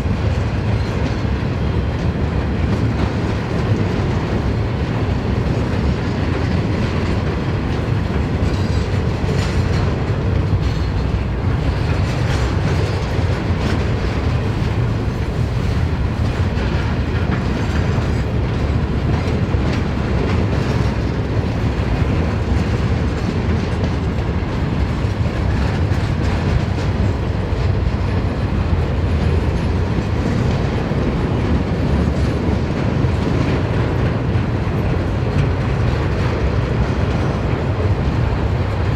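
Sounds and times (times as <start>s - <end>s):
freight train rumbling past: 0.0s - 38.9s
steel wheels clattering on rails: 0.0s - 38.9s.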